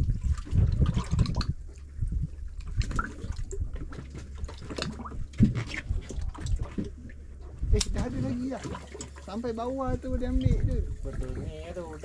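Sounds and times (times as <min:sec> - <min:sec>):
steady low hum: 0:00.0 - 0:12.0
water splashing and dripping: 0:00.0 - 0:12.0.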